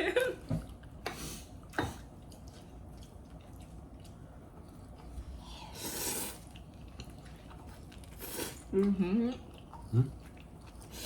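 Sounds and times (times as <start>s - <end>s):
person chewing: 0.7s - 11.0s.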